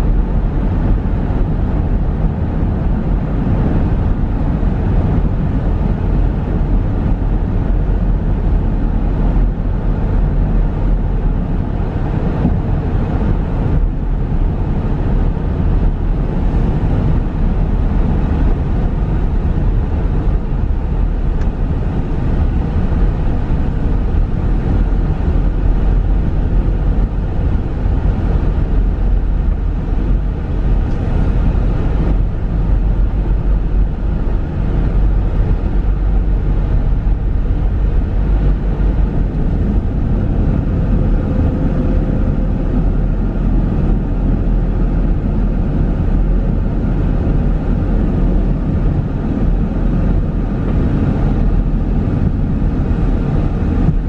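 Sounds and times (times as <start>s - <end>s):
car tyres and engine rumble: 0.0s - 54.0s.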